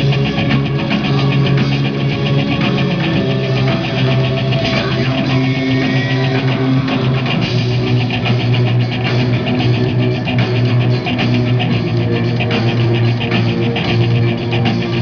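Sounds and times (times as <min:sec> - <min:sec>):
rock band playing loudly: 0:00.0 - 0:15.0.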